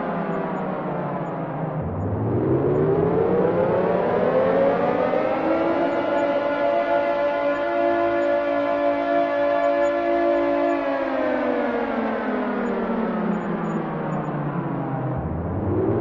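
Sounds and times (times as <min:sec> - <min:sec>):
air raid siren: 0:00.0 - 0:16.0.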